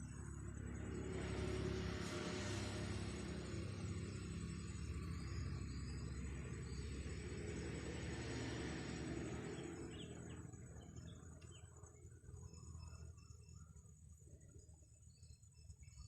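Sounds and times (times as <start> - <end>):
insects chirping: 0.0 - 16.0
birds chirping: 0.7 - 16.0.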